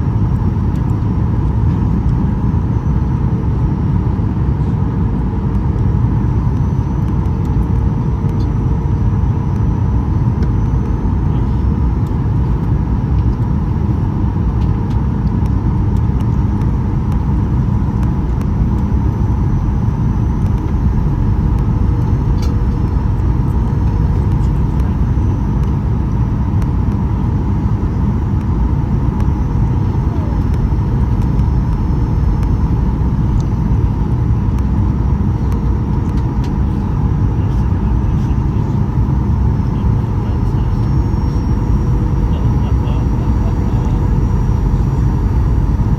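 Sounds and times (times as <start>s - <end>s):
airplane cabin engine rumble: 0.0s - 45.9s
constant cabin hum: 0.0s - 45.9s.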